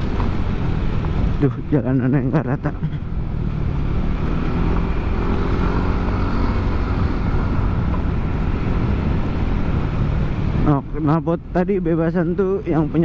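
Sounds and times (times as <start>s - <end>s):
scooter engine cruising: 0.0s - 11.1s.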